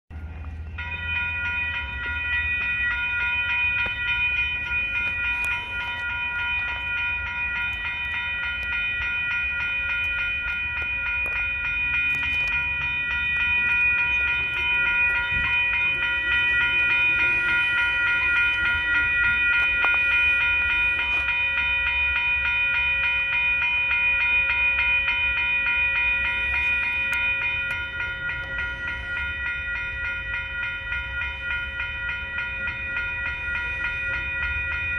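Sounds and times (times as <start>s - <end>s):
crossing warning bells ringing: 0.1s - 34.9s
train cars rumbling: 0.1s - 34.9s.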